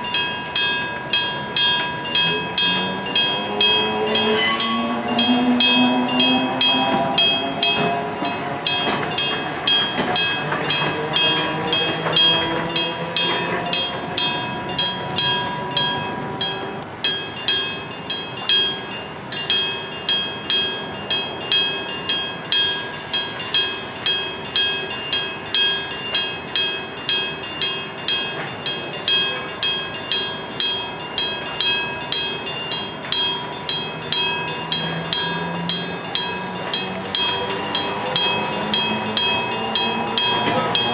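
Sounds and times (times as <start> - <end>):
level crossing bell ringing: 0.0 - 40.9
train passing with rising hum: 0.0 - 40.9.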